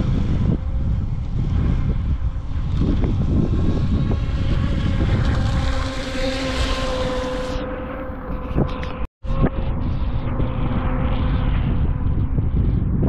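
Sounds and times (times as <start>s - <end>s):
electric boat motor whine: 0.0s - 12.9s
wind buffeting microphone: 0.0s - 13.0s.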